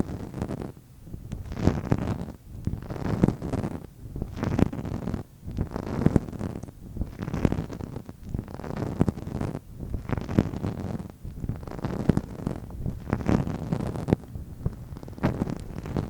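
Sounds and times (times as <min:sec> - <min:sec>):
soft tapping and rubbing: 0:00.0 - 0:16.0.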